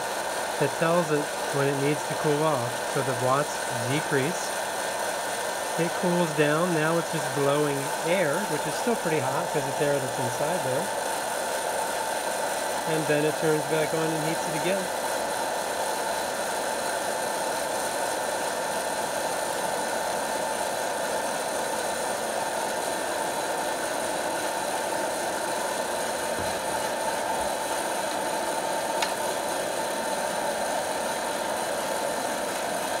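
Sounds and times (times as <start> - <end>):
popcorn popper fan whirring: 0.0 - 33.0.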